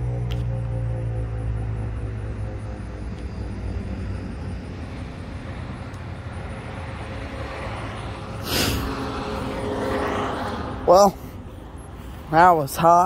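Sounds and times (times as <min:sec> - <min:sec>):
low rumble: 0:00.0 - 0:10.5
warning siren winding down: 0:00.0 - 0:11.2.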